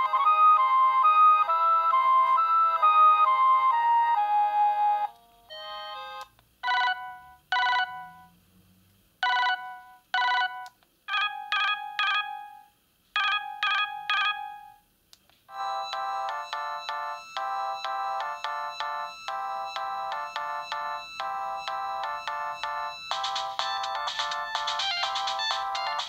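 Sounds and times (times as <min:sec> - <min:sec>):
phone ringtone melody: 0:00.0 - 0:08.3, 0:09.2 - 0:14.8, 0:15.5 - 0:26.0.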